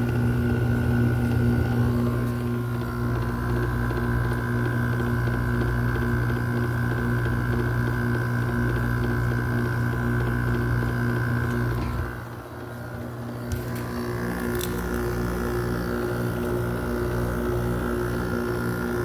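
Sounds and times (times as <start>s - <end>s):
window air conditioner hum: 0.0s - 19.0s.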